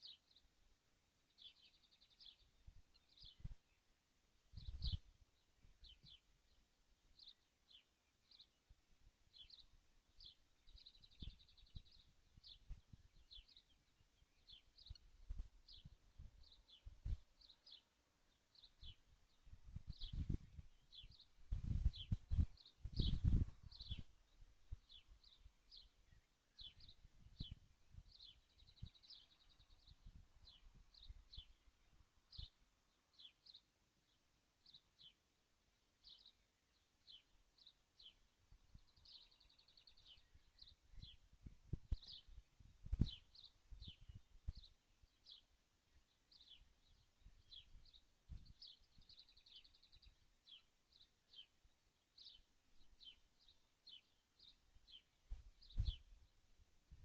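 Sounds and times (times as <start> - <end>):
faint bird chirps: 0.0 - 57.0.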